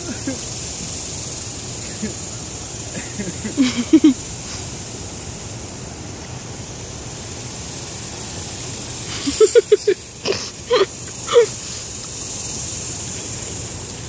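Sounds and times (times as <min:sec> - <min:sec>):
river rushing over riffles: 0:00.0 - 0:14.0.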